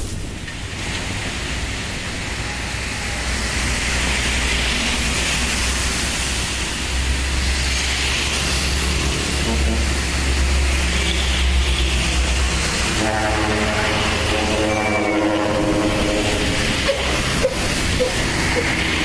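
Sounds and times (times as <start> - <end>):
dump truck diesel rumble: 0.0 - 19.0
rushing hiss of tyres: 0.0 - 19.0.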